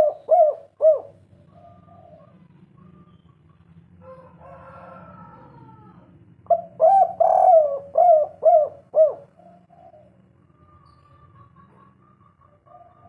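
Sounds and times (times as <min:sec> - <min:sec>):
dove cooing: 0:00.0 - 0:03.4, 0:04.0 - 0:13.0
faint bird calling: 0:00.0 - 0:03.6, 0:05.4 - 0:12.4.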